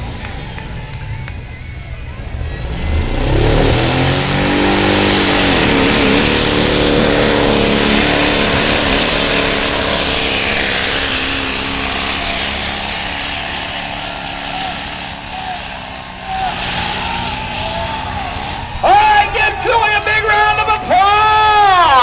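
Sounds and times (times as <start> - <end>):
truck engine at high revs: 0.0 - 1.5, 2.1 - 22.0.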